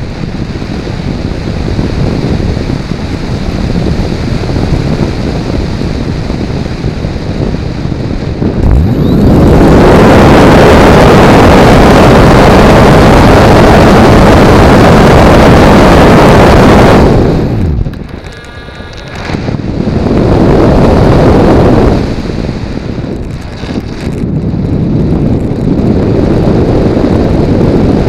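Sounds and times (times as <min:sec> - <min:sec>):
electric motor and propeller: 0:00.0 - 0:28.0
wind buffeting microphone: 0:00.0 - 0:28.0.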